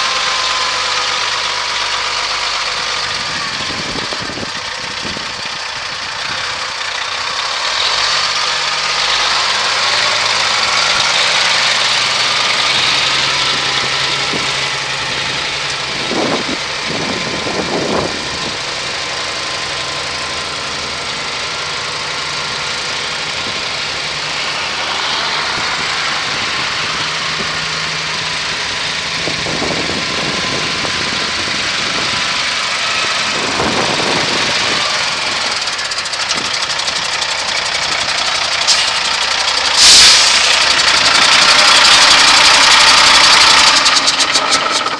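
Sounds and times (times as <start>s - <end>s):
truck diesel engine running: 0.0s - 44.9s.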